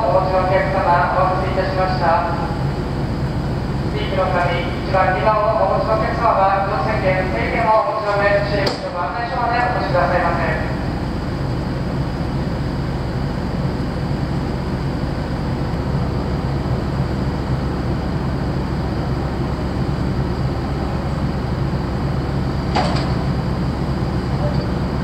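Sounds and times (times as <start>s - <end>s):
ship diesel machinery hum: 0.0s - 25.0s.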